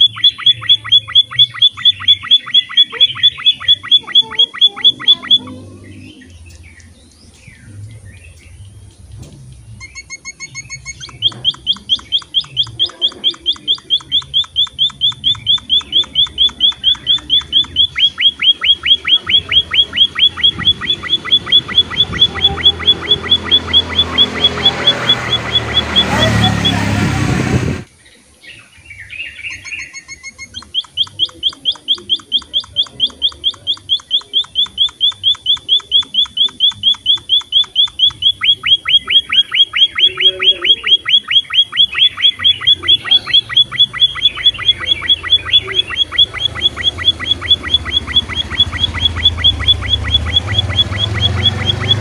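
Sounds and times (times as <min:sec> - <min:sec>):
finch chirping: 0:00.0 - 0:27.1, 0:28.4 - 0:52.0.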